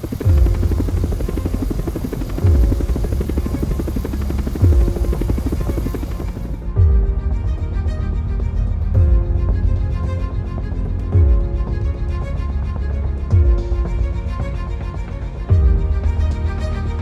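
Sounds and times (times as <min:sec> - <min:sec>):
cinematic soundtrack music: 0:00.0 - 0:17.0.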